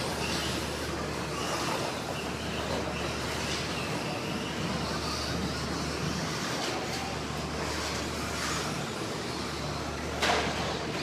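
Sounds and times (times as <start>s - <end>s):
small motors whining: 0.0s - 10.7s.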